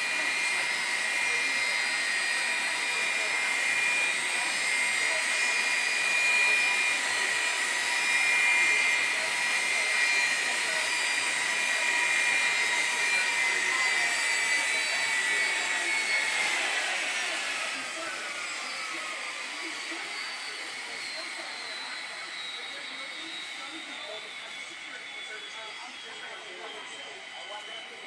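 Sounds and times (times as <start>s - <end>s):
jet engines whining: 0.0s - 28.0s.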